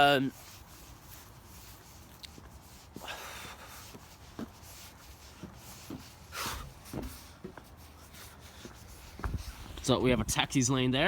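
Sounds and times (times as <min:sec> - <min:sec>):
footsteps walking: 0:00.6 - 0:10.3.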